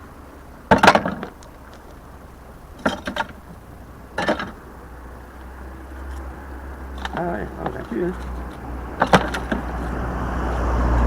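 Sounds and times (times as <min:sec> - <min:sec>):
scrap metal clanking: 0:00.6 - 0:10.8.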